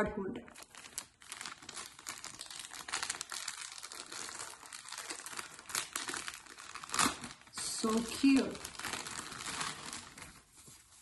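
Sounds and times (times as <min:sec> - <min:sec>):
plastic bag crinkling: 0:00.5 - 0:11.0.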